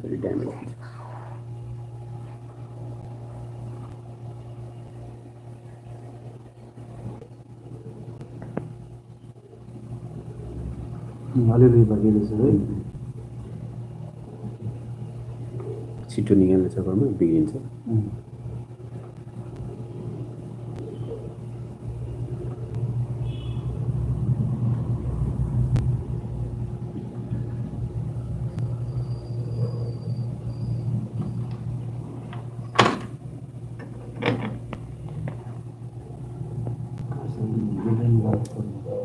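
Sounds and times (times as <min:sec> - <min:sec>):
low hum with rumble: 0:00.0 - 0:39.0.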